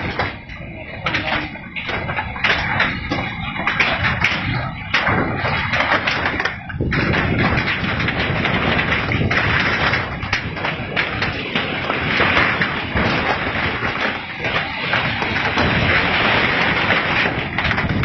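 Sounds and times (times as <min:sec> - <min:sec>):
things rattling in earthquake: 0:00.0 - 0:18.0.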